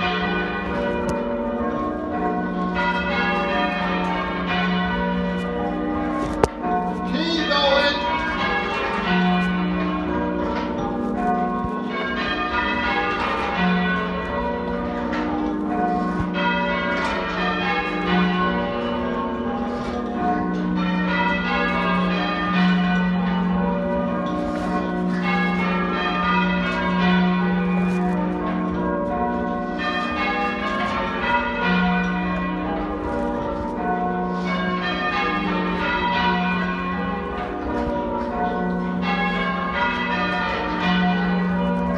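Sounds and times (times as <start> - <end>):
church bells change ringing: 0.0 - 41.9.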